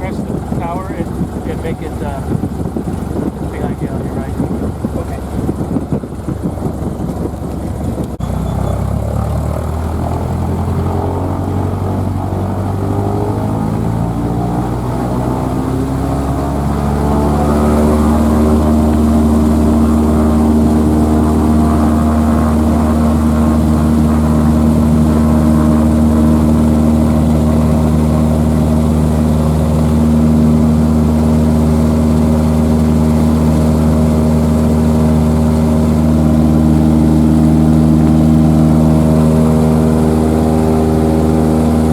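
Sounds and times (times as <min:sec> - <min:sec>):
propeller plane engine throttling up: 0:00.0 - 0:41.9.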